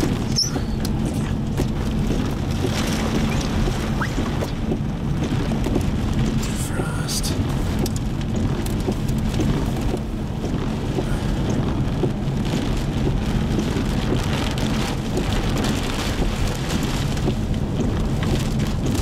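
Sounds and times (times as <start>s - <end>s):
rain drops hitting car: 0.0s - 19.0s
road and wind rumble: 0.0s - 19.0s.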